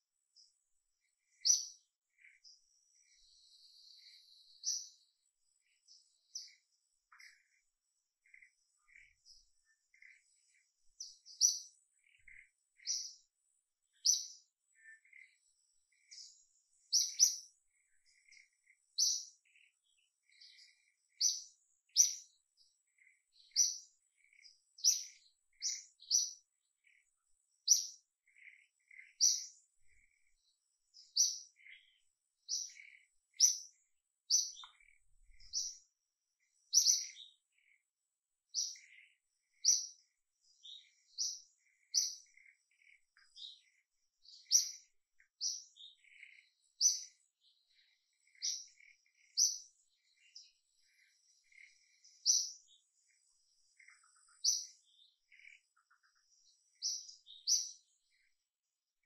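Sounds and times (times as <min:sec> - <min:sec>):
faint low bird twitters: 0:00.0 - 0:59.0.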